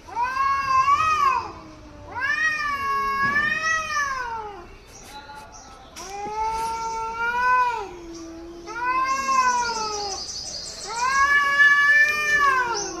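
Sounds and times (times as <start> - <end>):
cat yowling: 0.0 - 4.7, 6.1 - 10.2, 10.8 - 13.0.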